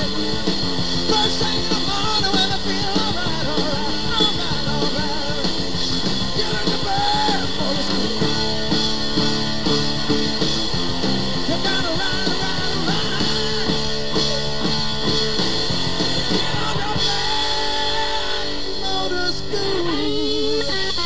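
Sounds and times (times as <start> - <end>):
rock music with guitar and drums: 0.0 - 21.0.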